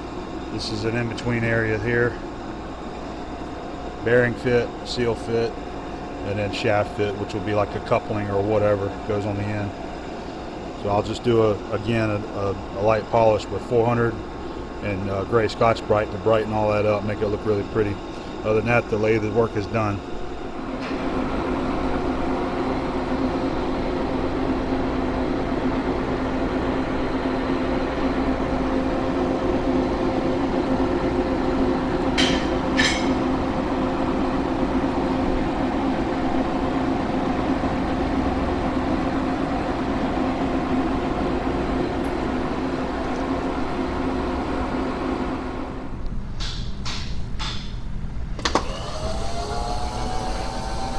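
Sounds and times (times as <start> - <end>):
lathe running hum: 0.0 - 46.2, 48.4 - 50.9.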